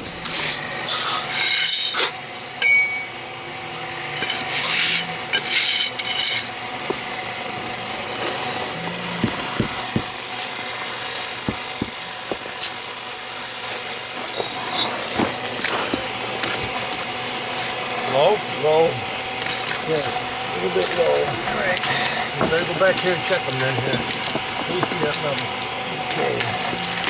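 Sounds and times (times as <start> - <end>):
power saw cutting masonry: 0.0 - 27.0.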